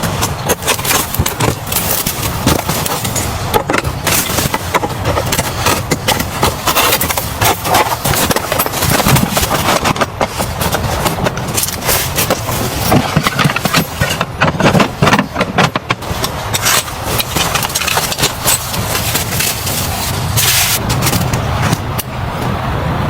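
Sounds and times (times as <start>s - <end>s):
sharp knocks and clatters: 0.0s - 21.9s
rough noise: 0.0s - 23.0s.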